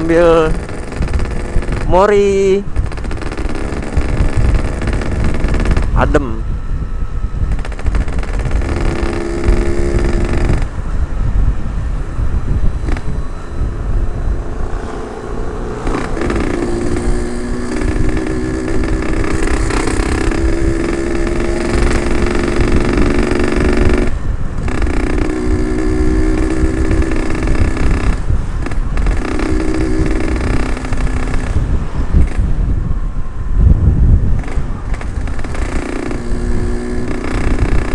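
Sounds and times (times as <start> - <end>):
two-stroke motorcycle engine running: 0.0 - 11.1, 12.0 - 32.7, 34.3 - 37.9
wind rumble: 0.0 - 37.9.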